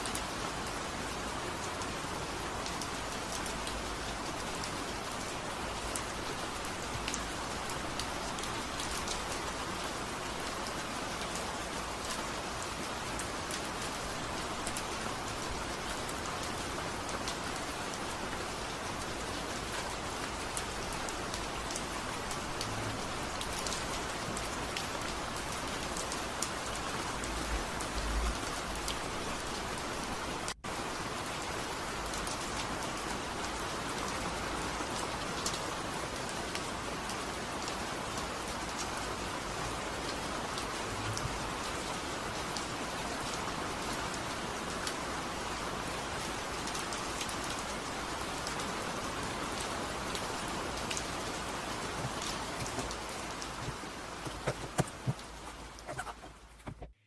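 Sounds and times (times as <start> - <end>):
steady rain hiss: 0.0 - 54.2.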